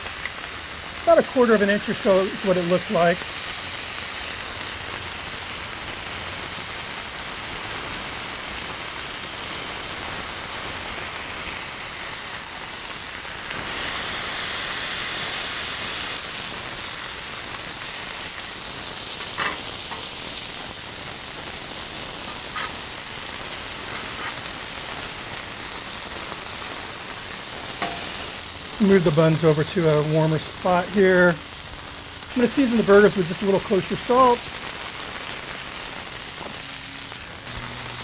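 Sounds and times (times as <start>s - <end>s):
patties sizzling on a griddle: 0.0s - 38.0s.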